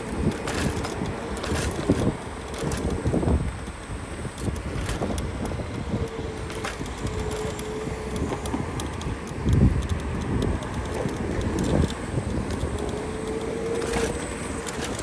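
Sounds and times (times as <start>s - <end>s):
steady whine: 0.0s - 15.0s
wheels rumbling on road: 0.0s - 15.0s
wind on microphone: 0.0s - 15.0s.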